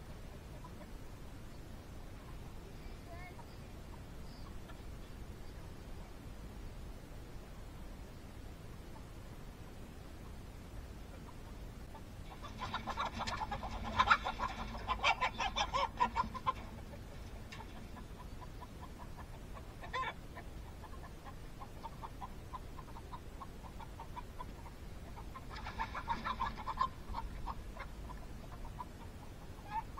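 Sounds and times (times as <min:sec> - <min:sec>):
chickens clucking: 0:00.0 - 0:06.3, 0:08.7 - 0:29.9.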